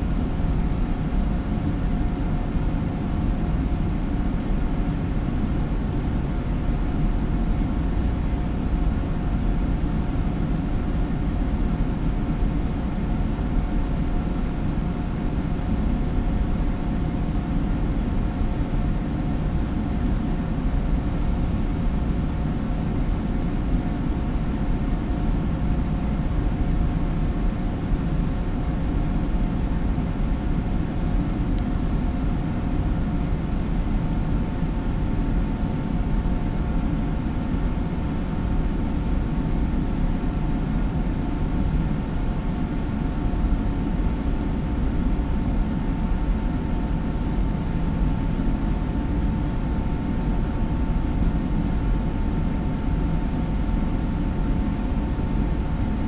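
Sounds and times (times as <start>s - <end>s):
hum of steady tones: 0.0s - 56.0s.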